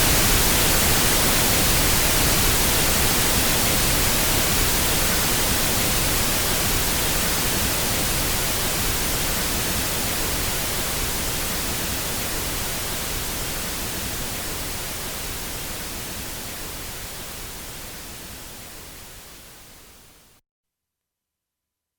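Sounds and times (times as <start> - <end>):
pink noise hiss: 0.0 - 20.4.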